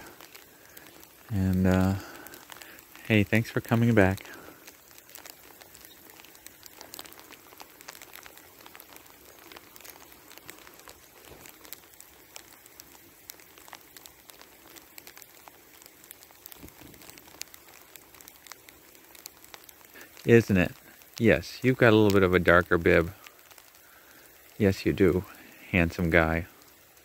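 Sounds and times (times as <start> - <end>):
faint steady hiss: 0.0 - 27.0
sleet ticking: 0.0 - 27.0.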